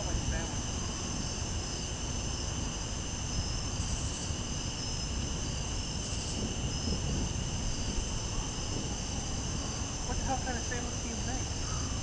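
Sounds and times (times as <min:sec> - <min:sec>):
crickets trilling: 0:00.0 - 0:12.0
low even rumbling noise: 0:00.0 - 0:12.0.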